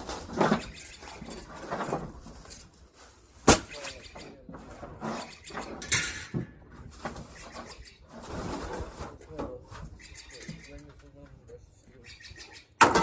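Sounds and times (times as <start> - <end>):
scraping rustle: 0.0 - 3.5, 4.2 - 12.0.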